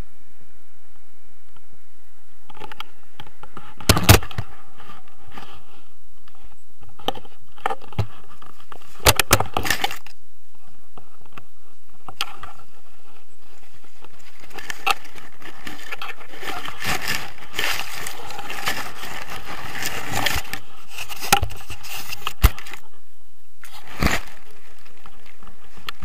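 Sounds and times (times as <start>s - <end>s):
grass and leaves rustling: 0.0s - 26.0s.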